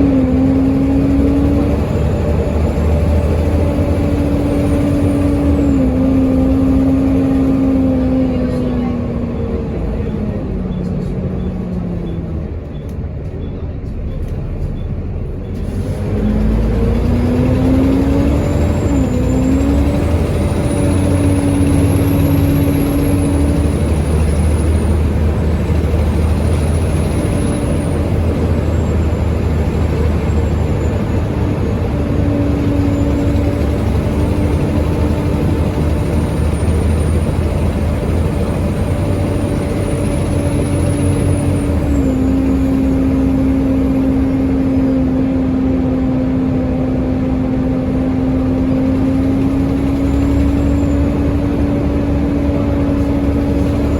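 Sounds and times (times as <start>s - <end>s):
bus diesel engine droning: 0.0s - 53.9s.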